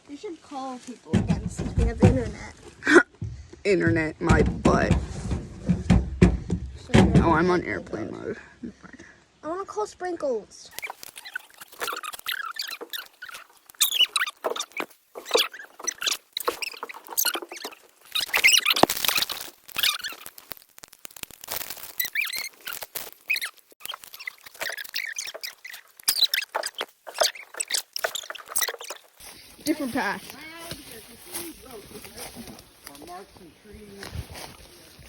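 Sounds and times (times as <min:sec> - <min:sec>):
rustling and crackling: 0:00.0 - 0:07.6, 0:10.7 - 0:35.0.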